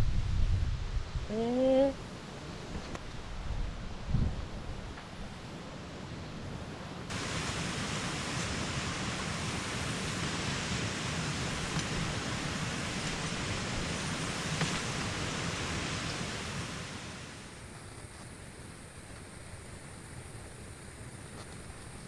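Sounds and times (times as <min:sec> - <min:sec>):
rain and wind rushing: 0:00.0 - 0:01.3, 0:02.1 - 0:22.0.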